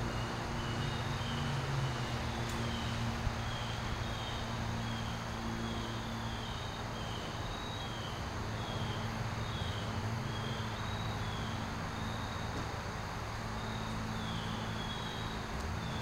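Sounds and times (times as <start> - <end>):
lawn mower engine droning: 0.0 - 16.0.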